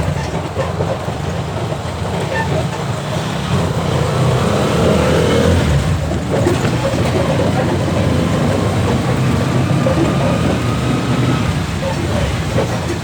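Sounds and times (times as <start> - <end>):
motorcycle engine: 0.0 - 13.0
road noise: 0.0 - 13.0.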